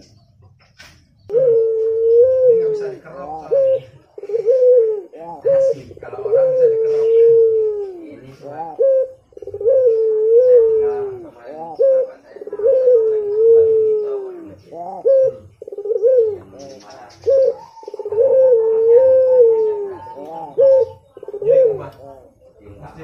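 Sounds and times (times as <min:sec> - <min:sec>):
dove cooing: 0:01.0 - 0:23.0.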